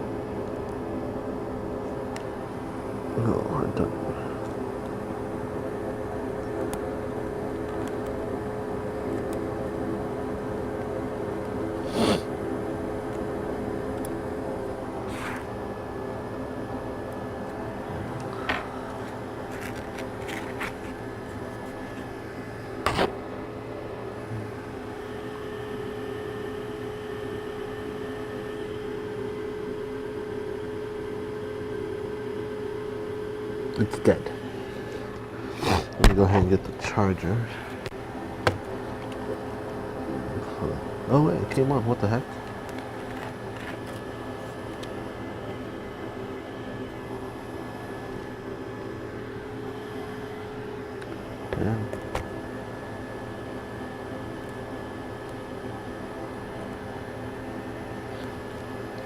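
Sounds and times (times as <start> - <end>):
equipment whirring hum: 0.0 - 59.0.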